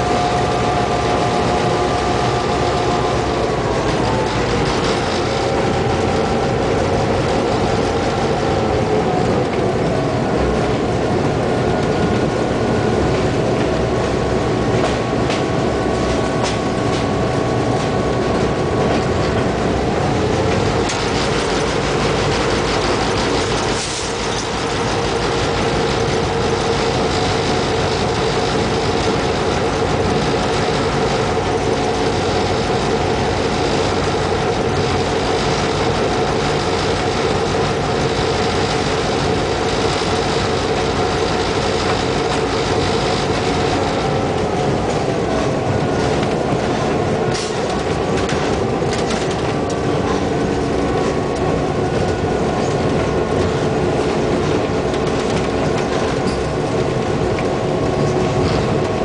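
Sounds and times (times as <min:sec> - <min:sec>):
diesel locomotive engine drone: 0:00.0 - 0:59.0
wheels rattling on rail: 0:00.0 - 0:59.0.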